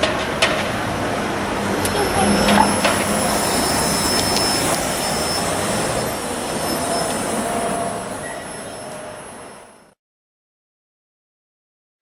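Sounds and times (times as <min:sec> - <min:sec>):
vehicle engine and tyre rush: 0:00.0 - 0:09.9.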